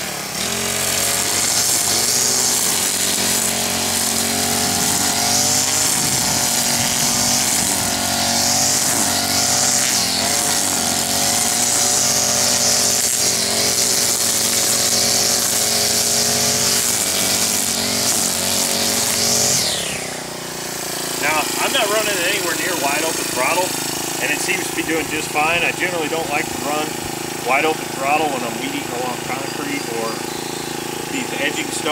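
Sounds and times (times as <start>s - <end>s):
string trimmer running: 0.0s - 31.9s.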